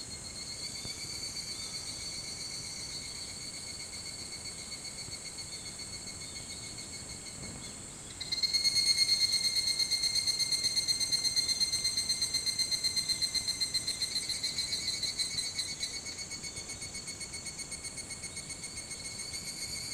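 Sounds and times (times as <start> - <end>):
cicada chorus: 0.0 - 19.9
cicada rapidly pulsing call: 0.0 - 19.9.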